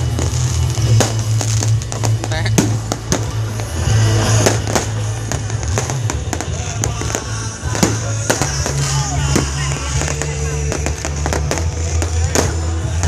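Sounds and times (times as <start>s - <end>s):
fireworks cracking and popping: 0.0s - 13.0s
music with heavy bass: 0.0s - 13.0s.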